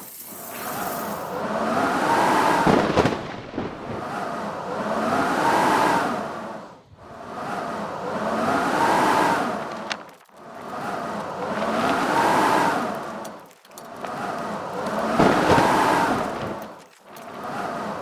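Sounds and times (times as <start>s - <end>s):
howling blizzard wind: 0.3s - 18.0s.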